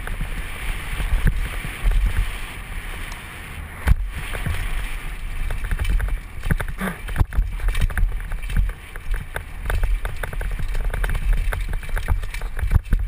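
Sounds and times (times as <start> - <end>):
bike rattling and clattering: 0.0 - 13.0
wind rumble on microphone: 0.0 - 13.0.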